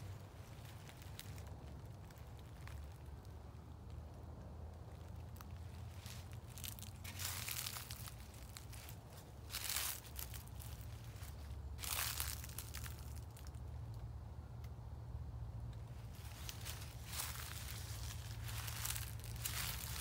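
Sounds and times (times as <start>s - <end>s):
footsteps crunching dry leaves: 0.0s - 4.0s, 4.9s - 13.7s, 15.9s - 20.0s.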